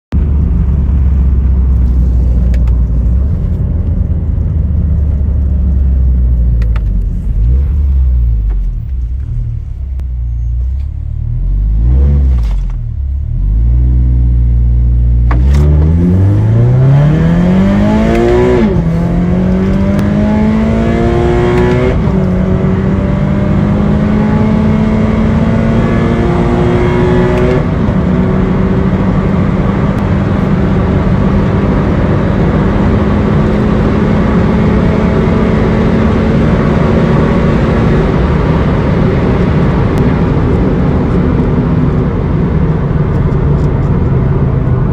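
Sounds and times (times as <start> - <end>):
car engine accelerating: 0.1 - 44.9
road and wind noise: 0.1 - 44.9.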